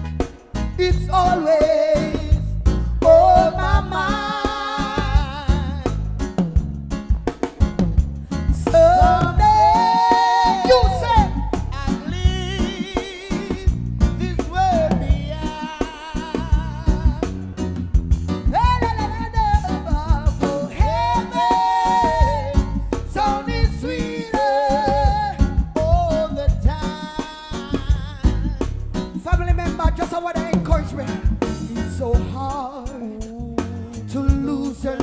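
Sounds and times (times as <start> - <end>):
drum kit beats and cymbals: 0.0 - 35.0
live reggae band: 0.0 - 35.0
person singing: 0.8 - 6.0, 8.5 - 17.4, 18.5 - 35.0.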